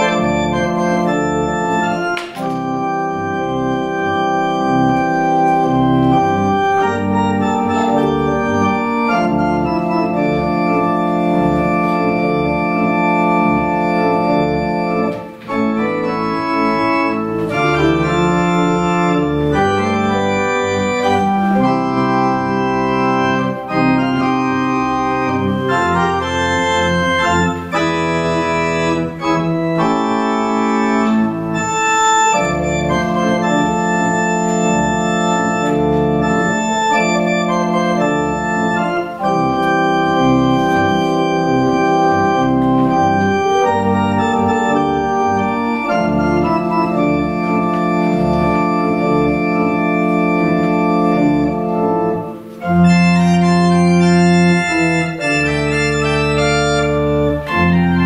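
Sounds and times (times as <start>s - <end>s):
organ playing chords: 0.0s - 58.0s.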